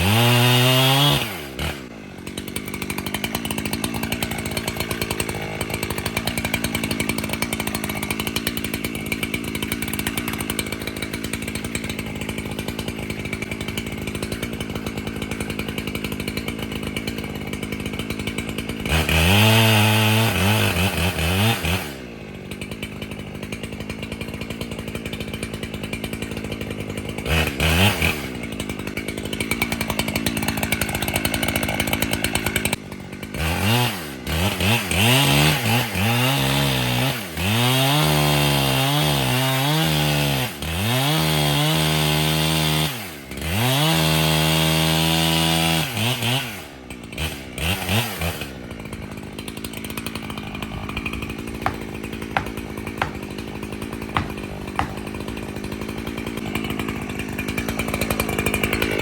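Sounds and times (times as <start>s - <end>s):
chainsaw cutting into tree trunk: 0.0s - 59.0s
chainsaw idling and revving: 0.0s - 59.0s.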